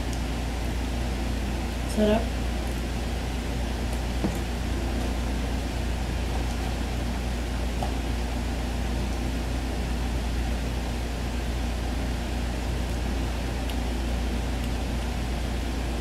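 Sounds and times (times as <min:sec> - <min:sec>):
room noise hum and hiss: 0:00.0 - 0:16.0.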